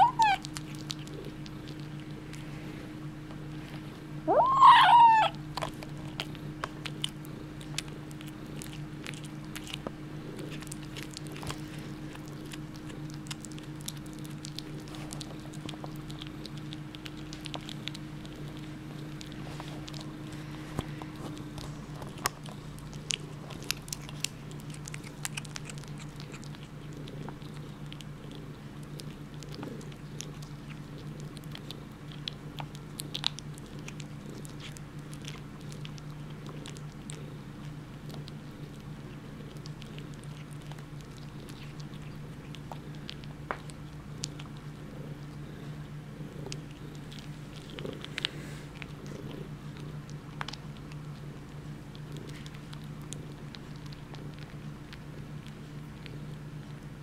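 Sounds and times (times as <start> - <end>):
kitten chewing on bone: 0.0 - 57.0
steady low hum: 0.0 - 57.0.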